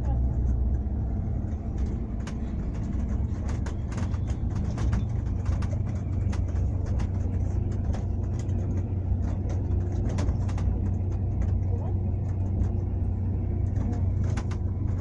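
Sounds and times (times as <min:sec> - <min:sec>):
moving vehicle rumble: 0:00.0 - 0:15.0
clicks and rattles: 0:01.6 - 0:12.9, 0:13.6 - 0:15.0.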